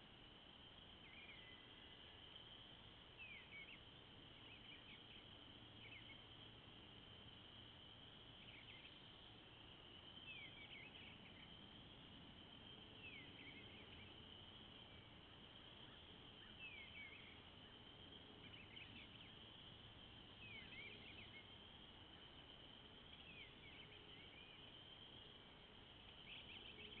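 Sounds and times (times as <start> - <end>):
steady high hiss: 0.0 - 27.0
distant bird chirps: 3.2 - 6.5, 8.2 - 27.0.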